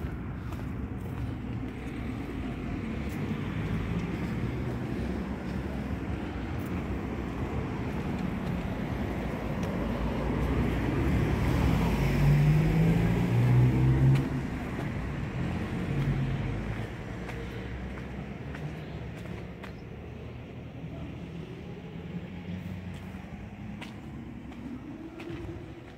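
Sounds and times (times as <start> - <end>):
vehicle engine driving past: 0.0 - 25.9.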